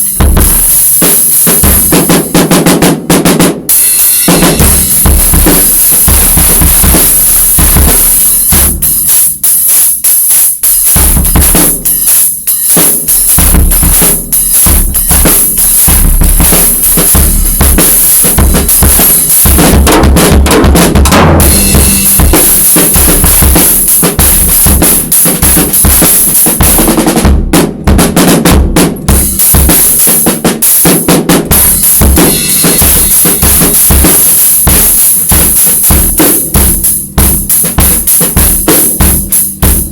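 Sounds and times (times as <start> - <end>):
cymbals ringing: 0.0 - 2.6, 3.7 - 27.4, 29.0 - 39.9
bass drum: 0.0 - 39.9
snare drum rimshots and rolls: 0.0 - 39.9.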